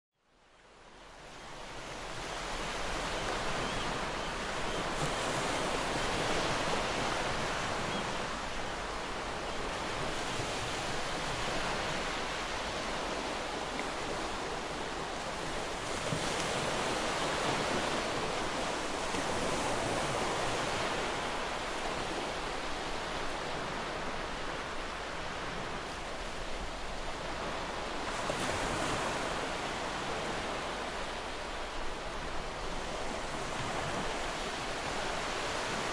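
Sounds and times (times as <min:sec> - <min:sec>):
sea waves washing ashore: 0:00.8 - 0:35.9.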